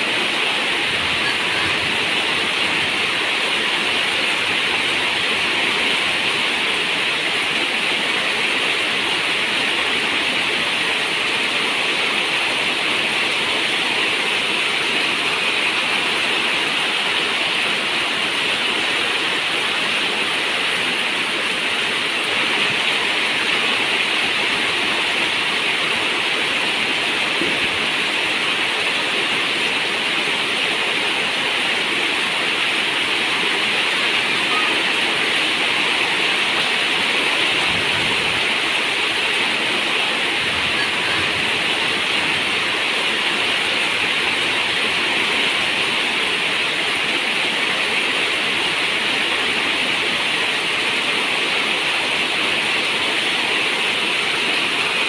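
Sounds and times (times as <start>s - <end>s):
dense rain on a metal roof: 0.0s - 55.0s.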